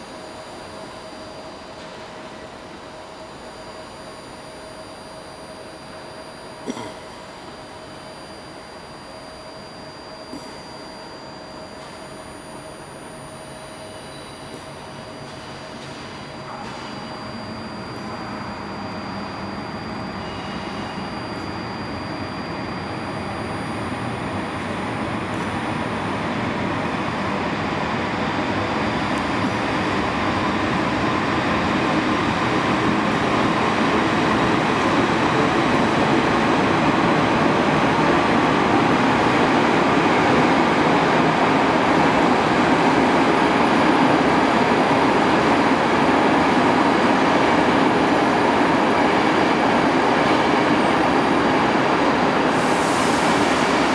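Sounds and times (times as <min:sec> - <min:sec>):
train running: 0:00.0 - 0:53.9.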